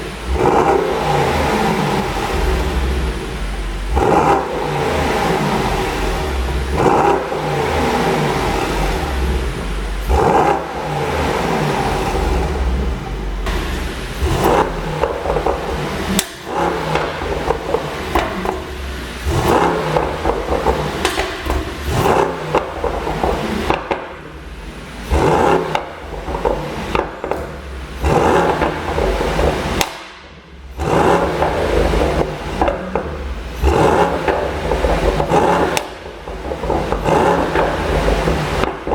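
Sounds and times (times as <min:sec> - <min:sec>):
car engine revving: 0:00.0 - 0:38.9
exhaust pops and crackles: 0:00.0 - 0:38.9.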